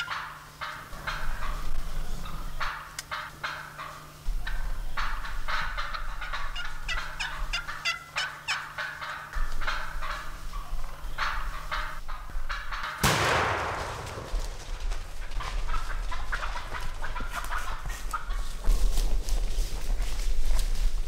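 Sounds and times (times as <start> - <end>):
wild turkeys calling: 0.0 - 19.1.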